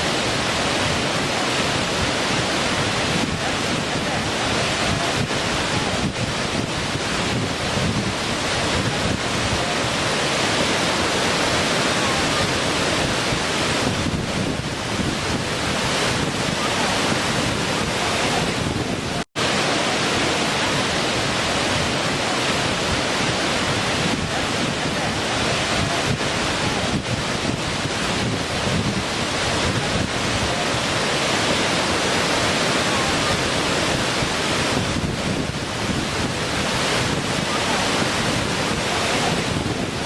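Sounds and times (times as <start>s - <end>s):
waterfall splashing: 0.0s - 40.0s.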